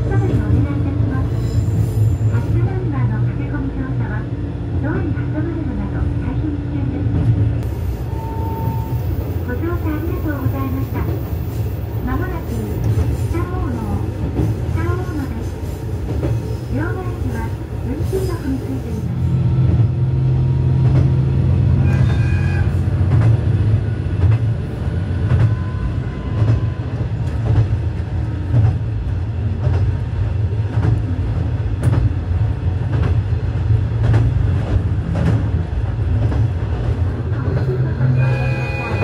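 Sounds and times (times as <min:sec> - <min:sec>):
railcar engine drone: 0:00.0 - 0:39.0.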